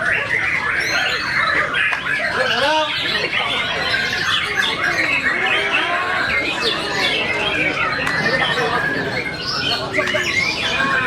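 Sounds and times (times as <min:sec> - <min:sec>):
songbird singing rapid chirps: 0:00.0 - 0:11.0.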